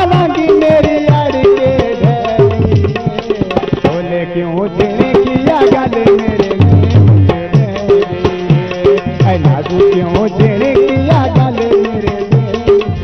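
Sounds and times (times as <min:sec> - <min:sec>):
tabla playing busy rhythm: 0:00.0 - 0:13.0.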